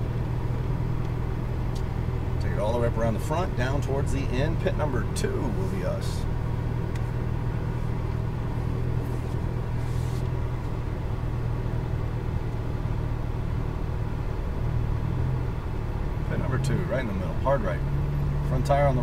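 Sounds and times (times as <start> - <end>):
car engine low drone: 0.0 - 19.0.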